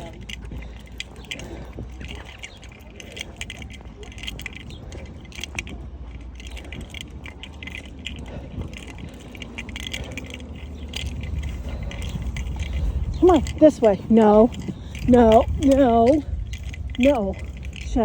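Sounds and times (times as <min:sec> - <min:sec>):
low rumble: 0:00.0 - 0:18.0
small metal pieces jingling: 0:00.0 - 0:18.0.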